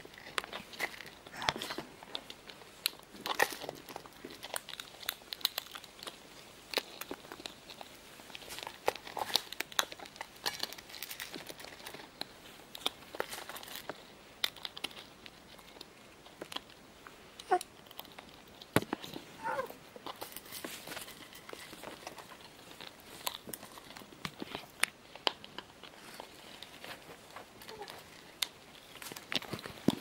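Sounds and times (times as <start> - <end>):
parrot cracking seeds: 0.0 - 30.0.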